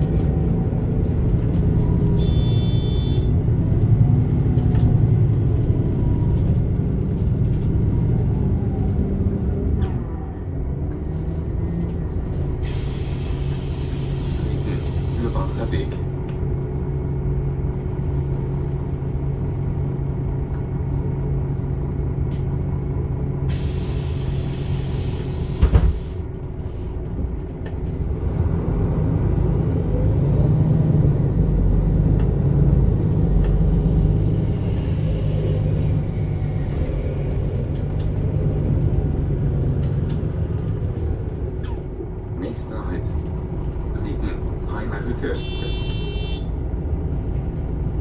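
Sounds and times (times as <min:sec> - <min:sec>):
diesel bus engine: 0:00.0 - 0:48.0.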